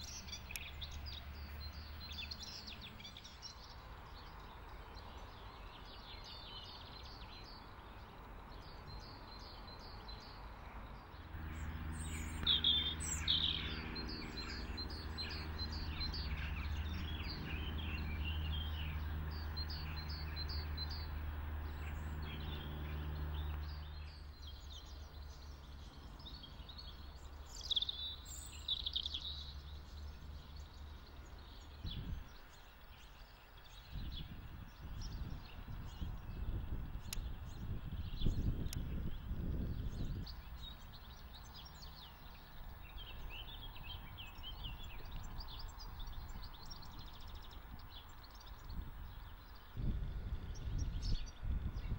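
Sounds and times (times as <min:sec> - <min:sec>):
low engine hum: 0:00.0 - 0:51.9
songbirds chirping: 0:00.0 - 0:51.9.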